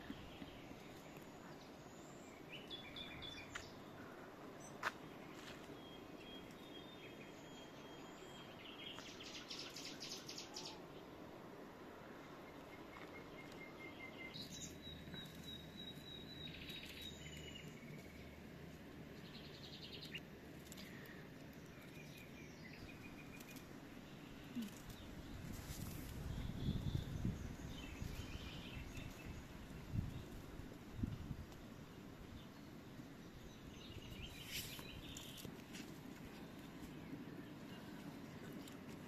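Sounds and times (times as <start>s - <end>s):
birds chirping: 0.0s - 11.2s, 12.2s - 39.0s.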